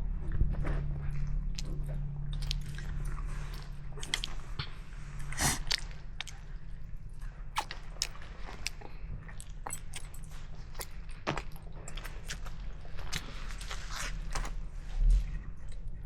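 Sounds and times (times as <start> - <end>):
people chewing food: 0.0 - 16.0.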